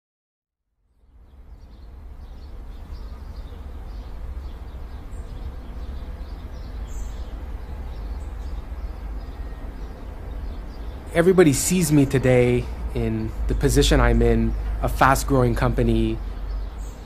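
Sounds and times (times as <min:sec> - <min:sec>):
faint bird chirps: 0:00.8 - 0:17.0
steady low rumble: 0:01.1 - 0:17.0.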